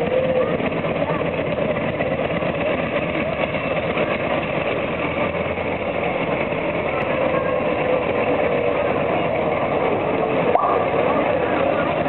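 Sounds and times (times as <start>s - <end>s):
fire engine driving past: 0.0s - 12.0s.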